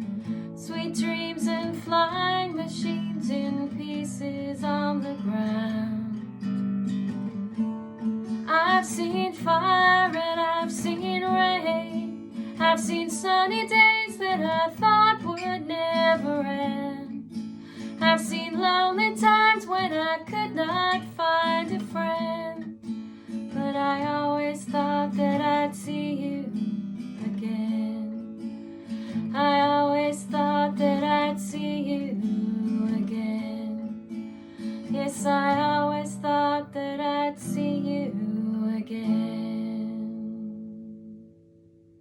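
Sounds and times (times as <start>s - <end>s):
woman singing: 0.0s - 6.4s, 8.4s - 22.8s, 23.4s - 41.2s.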